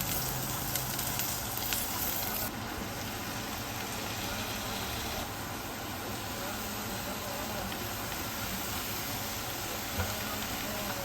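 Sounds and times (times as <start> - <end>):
steady hissing noise: 0.0 - 11.0.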